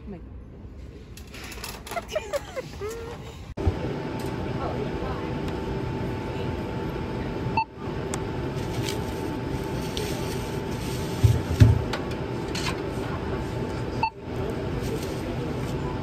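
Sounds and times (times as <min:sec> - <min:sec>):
store hum: 0:00.0 - 0:16.0.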